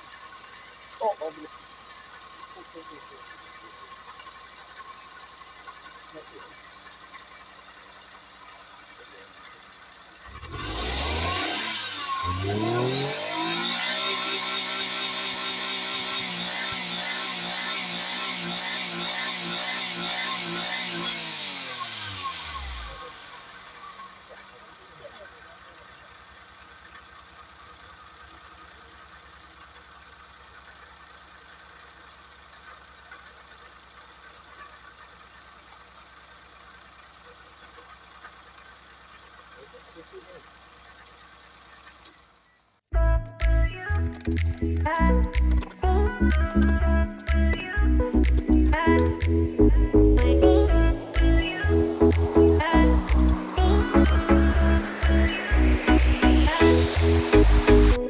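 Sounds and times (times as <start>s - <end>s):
small car engine revving: 0.0s - 42.6s, 43.4s - 58.0s.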